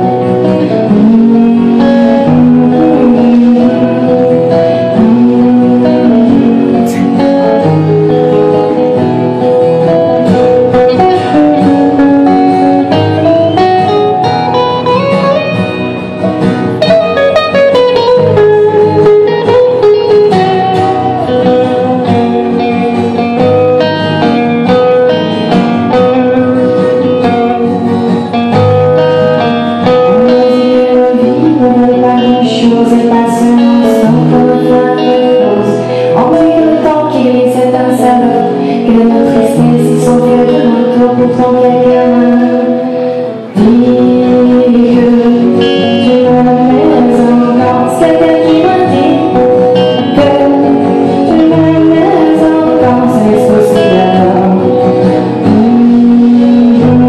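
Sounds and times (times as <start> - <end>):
acoustic guitar: 0.0 - 57.0
second guitar: 0.0 - 57.0.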